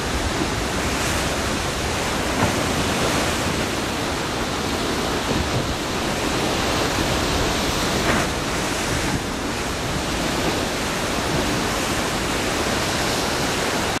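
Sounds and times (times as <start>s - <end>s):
ocean surf rushing into rock inlet: 0.0s - 14.0s.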